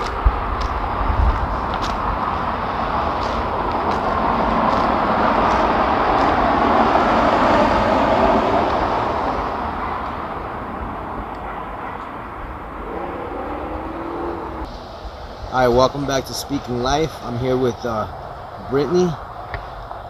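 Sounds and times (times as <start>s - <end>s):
traffic rushing by on bridge: 0.0s - 20.0s.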